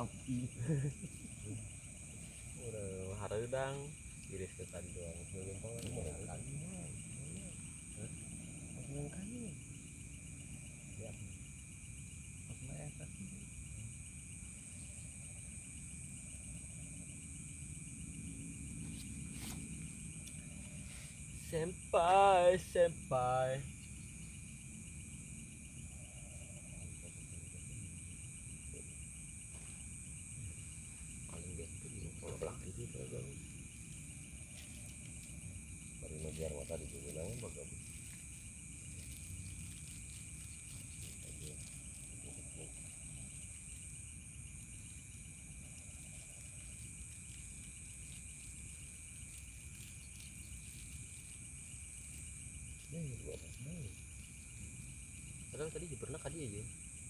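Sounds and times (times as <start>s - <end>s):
crickets chirring: 0.0s - 57.0s
high insect hiss: 0.0s - 57.0s.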